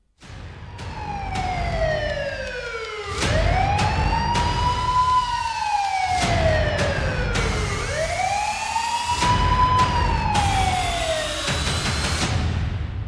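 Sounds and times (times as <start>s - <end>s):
police siren wailing: 0.6s - 12.2s.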